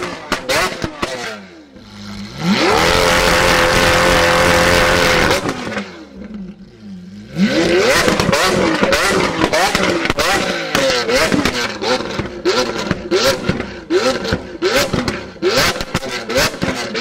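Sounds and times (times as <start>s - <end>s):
exhaust crackling pops: 0.0s - 1.2s, 3.3s - 6.6s, 7.6s - 17.0s
sports car engine revving: 0.0s - 17.0s.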